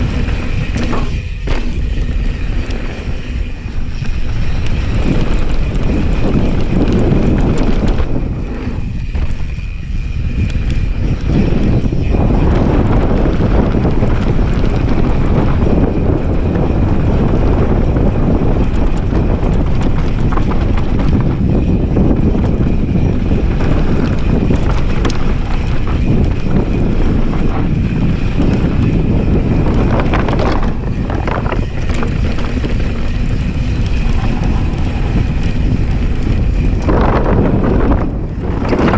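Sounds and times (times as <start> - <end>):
bike tyres rolling over dirt and rocks: 0.0 - 38.9
wind buffeting microphone: 0.0 - 38.9.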